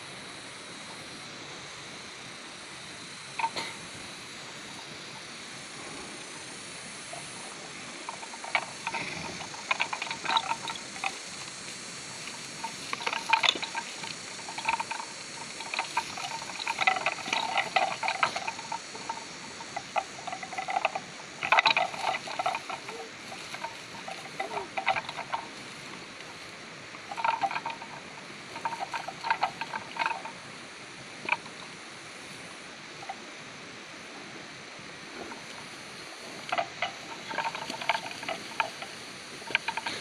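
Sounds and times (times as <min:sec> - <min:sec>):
water buffalo horns clicking: 0:03.3 - 0:33.3, 0:35.1 - 0:40.0.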